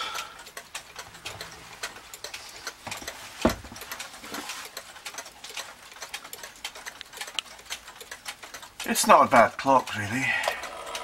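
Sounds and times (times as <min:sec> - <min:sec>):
wall clocks ticking: 0:00.0 - 0:11.0.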